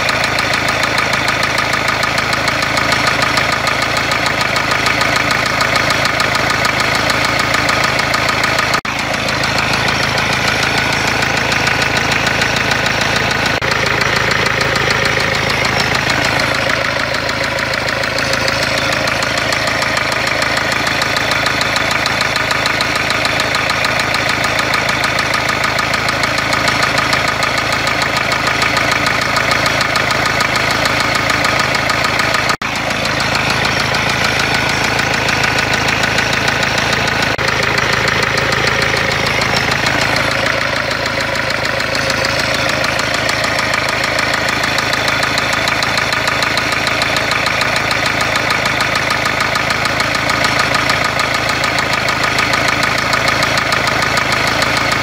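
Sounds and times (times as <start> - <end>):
diesel engine knocking: 0.0 - 55.0.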